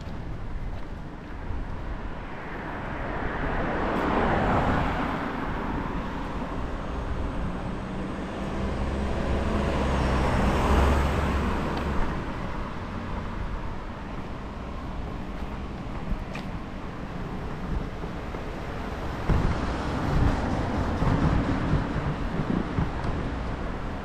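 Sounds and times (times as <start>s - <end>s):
cars driving past: 1.4s - 24.0s.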